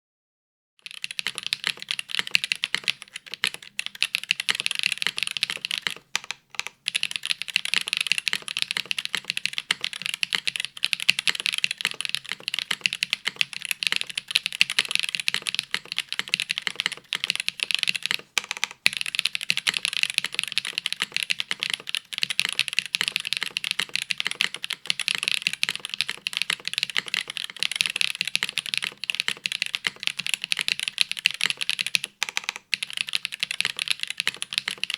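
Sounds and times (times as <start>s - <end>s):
fast typing on mechanical keyboard: 0.8s - 34.9s.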